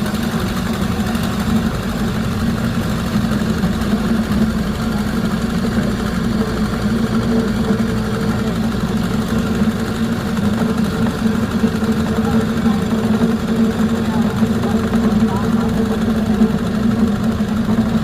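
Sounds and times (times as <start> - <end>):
ice-crushing machine running: 0.0 - 18.0.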